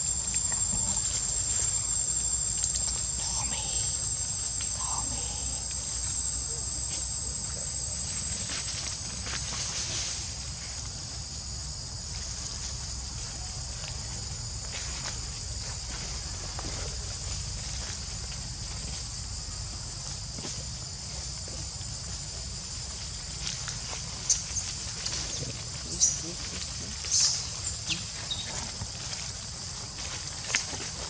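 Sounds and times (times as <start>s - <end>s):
insects shrilling: 0.0s - 31.0s.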